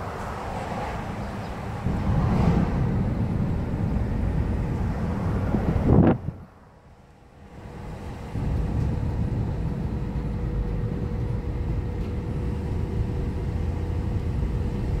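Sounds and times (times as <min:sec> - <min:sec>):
car road and engine rumble: 0:00.0 - 0:15.0
faint steady hum: 0:00.8 - 0:15.0.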